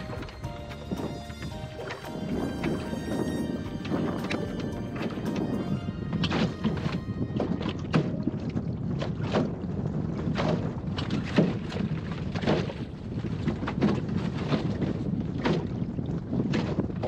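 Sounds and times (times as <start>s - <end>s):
water slapping a boat hull: 0.0s - 17.0s
wind buffeting microphone: 0.0s - 17.0s.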